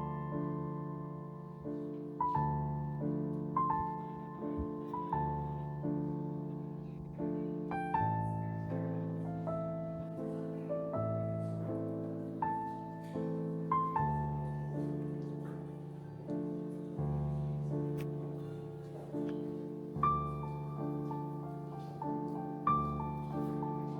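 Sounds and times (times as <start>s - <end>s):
soft piano music: 0.0s - 23.9s.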